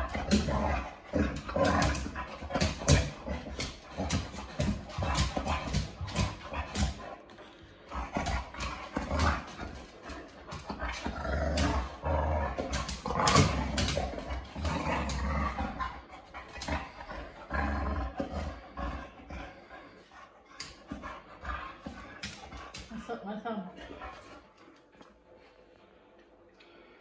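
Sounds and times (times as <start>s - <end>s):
dog growling in play: 0.0s - 23.1s.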